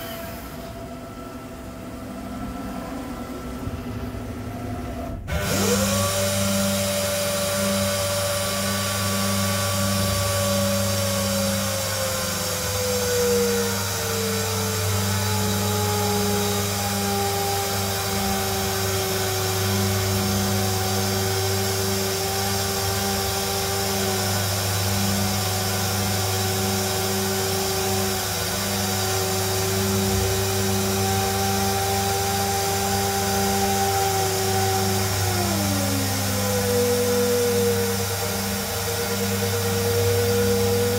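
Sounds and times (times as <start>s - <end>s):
motor whine: 0.0s - 40.9s.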